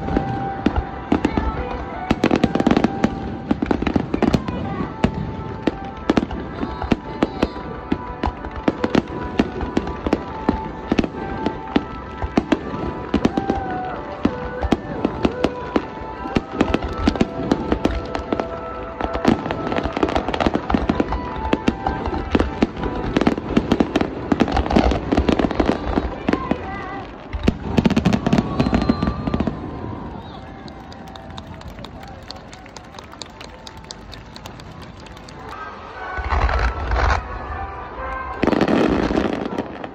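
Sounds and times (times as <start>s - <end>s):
fireworks bursting: 0.0s - 39.9s
music: 0.0s - 39.9s.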